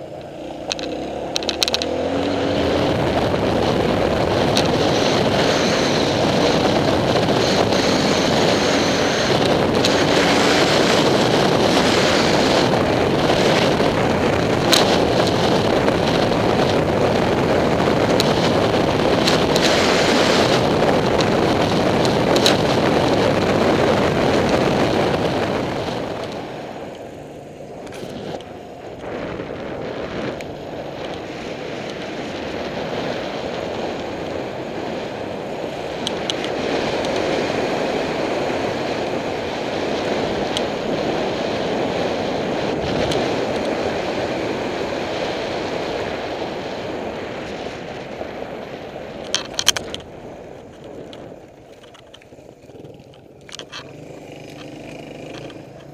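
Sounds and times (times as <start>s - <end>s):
dirt bike engine running: 0.0s - 55.9s
wind rushing over microphone: 0.0s - 55.9s.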